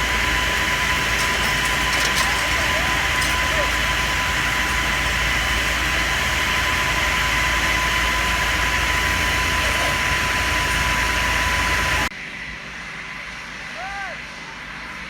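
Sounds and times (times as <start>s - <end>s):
engine whining and rumbling: 0.0s - 13.7s.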